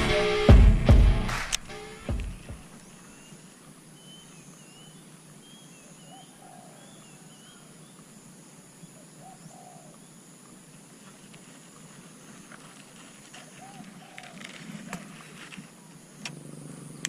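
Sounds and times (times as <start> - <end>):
birds chirping: 0.0 - 8.2, 11.0 - 17.0
steady faint hiss: 1.3 - 17.0.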